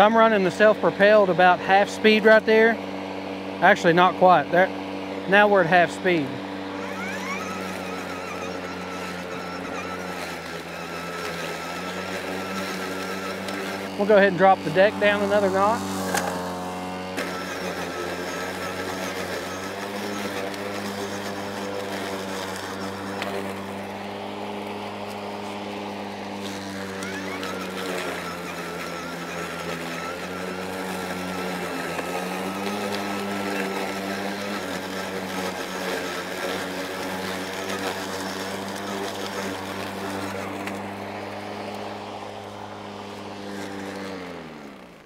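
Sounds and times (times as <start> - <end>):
electric lawn mower humming: 0.0 - 45.0.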